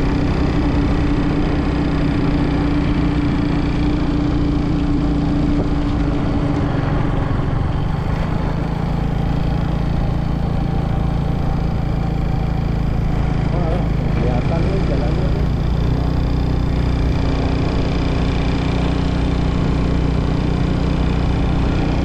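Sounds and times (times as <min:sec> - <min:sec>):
road and wind noise: 0:00.0 - 0:22.0
vehicle engine running: 0:00.0 - 0:22.0.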